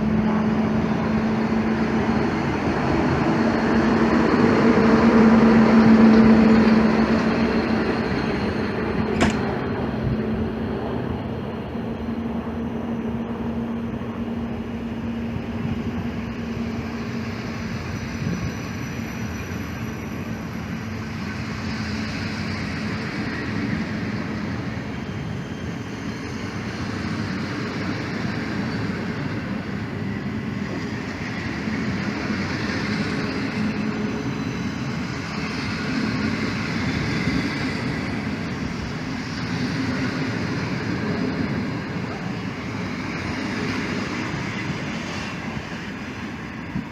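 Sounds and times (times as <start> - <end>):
train hum: 0.0 - 46.9
train wheels rumbling on rails: 0.0 - 46.9.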